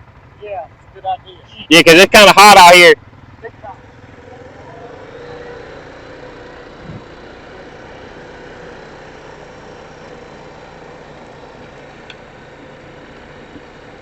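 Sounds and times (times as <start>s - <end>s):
atv engine running at low revs: 0.0s - 14.0s.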